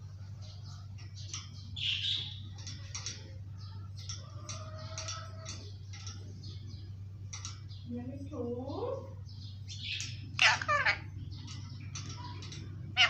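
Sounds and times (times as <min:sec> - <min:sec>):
steady low hum: 0:00.0 - 0:13.0
parakeet chirping and squawking: 0:00.3 - 0:07.8, 0:08.7 - 0:13.0.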